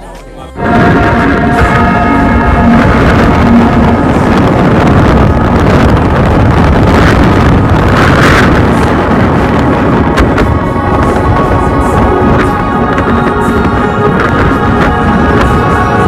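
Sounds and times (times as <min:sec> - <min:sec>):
wind blowing on microphone: 0:00.6 - 0:16.0.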